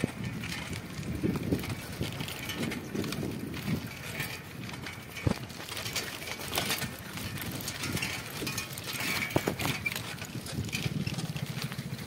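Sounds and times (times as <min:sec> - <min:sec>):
bicycle knocks: 0:00.0 - 0:12.0
bicycle rattling and clicking: 0:00.0 - 0:12.0
tyre and wind noise: 0:00.0 - 0:12.0.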